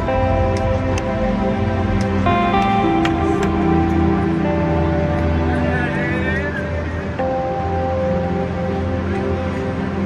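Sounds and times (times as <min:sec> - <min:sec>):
slow background music: 0:00.0 - 0:10.0.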